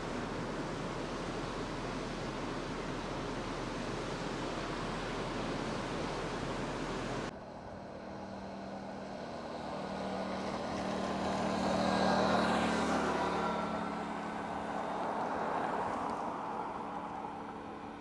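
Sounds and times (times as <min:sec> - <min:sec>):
tyre and road noise: 0:00.0 - 0:18.0
vehicle engine hum: 0:00.0 - 0:18.0.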